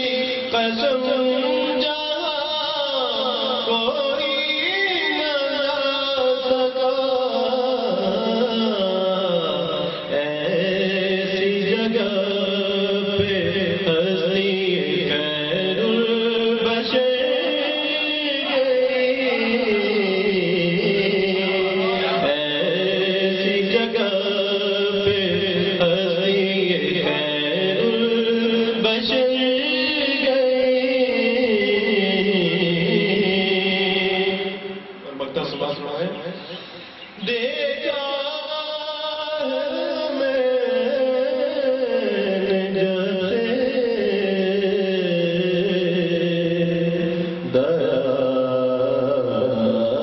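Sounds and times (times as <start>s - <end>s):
man singing: 0.0s - 50.0s.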